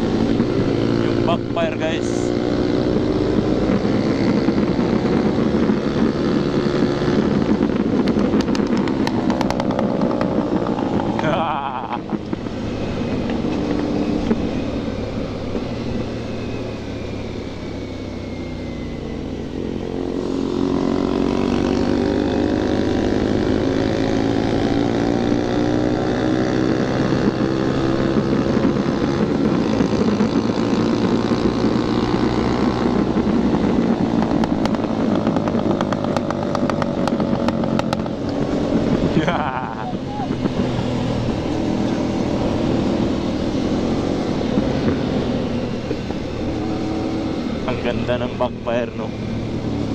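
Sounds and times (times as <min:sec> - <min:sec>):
heavy wind rush: 0:00.0 - 0:49.9
motorcycle engine revving: 0:00.0 - 0:49.9.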